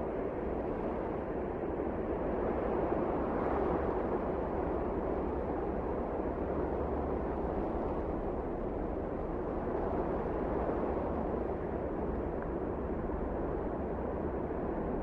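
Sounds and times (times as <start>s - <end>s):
wind blowing steadily: 0.0s - 15.0s.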